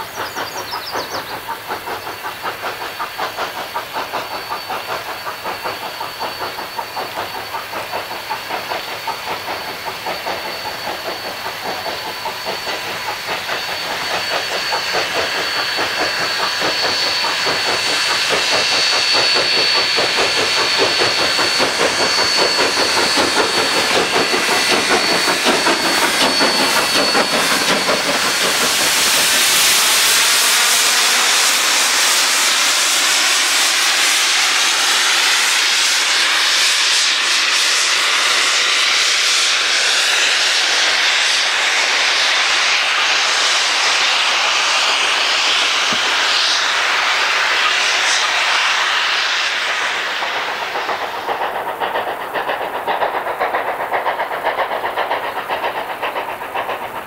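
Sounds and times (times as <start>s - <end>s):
steady steam hiss: 0.0s - 57.0s
steam locomotive exhaust chuffs: 0.0s - 57.0s.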